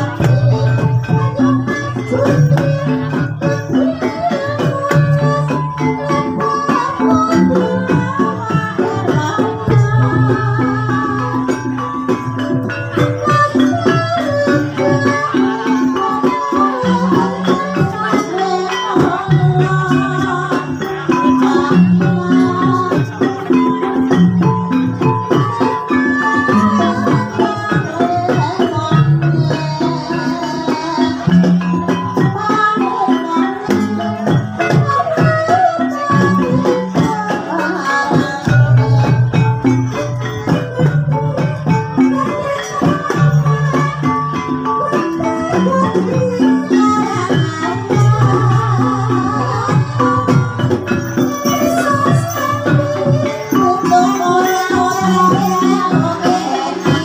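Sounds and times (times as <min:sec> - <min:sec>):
gamelan music: 0:00.0 - 0:57.0
shaken percussion: 0:00.0 - 0:57.0.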